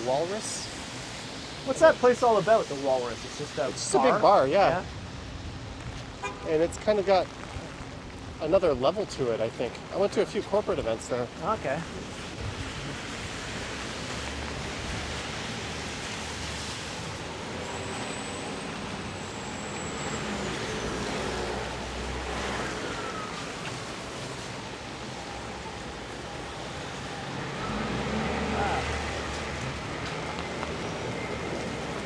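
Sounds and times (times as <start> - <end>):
pouring rain: 0.0 - 32.0
street traffic: 0.0 - 32.0.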